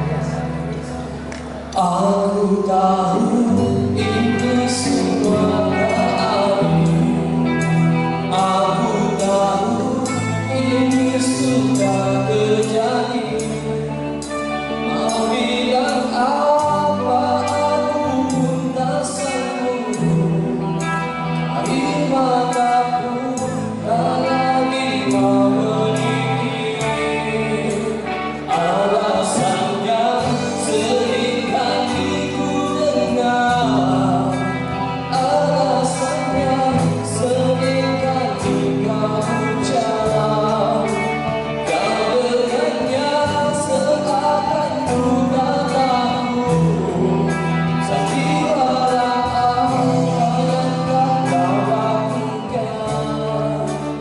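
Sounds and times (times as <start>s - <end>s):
amplified backing track: 0.0s - 54.0s
man singing into microphone: 0.0s - 54.0s.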